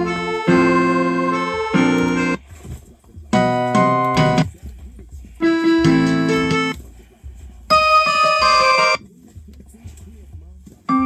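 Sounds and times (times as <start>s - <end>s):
electronic keyboard christmas music: 0.0s - 9.1s.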